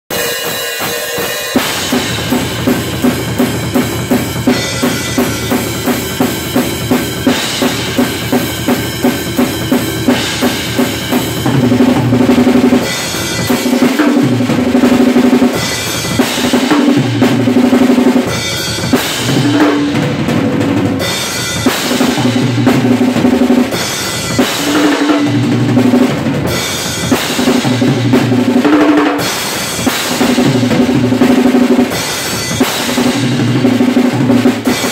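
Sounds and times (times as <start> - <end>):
drum kit beat: 0.0 - 34.9
tom drum runs: 0.1 - 34.9.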